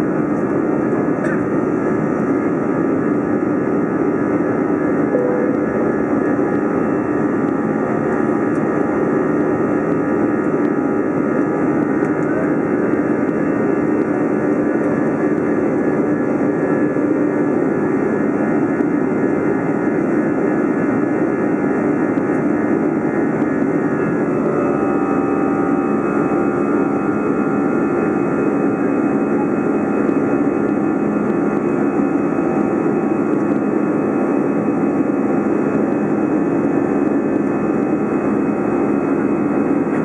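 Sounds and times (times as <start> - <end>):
jet engines heard from cabin: 0.0 - 40.0.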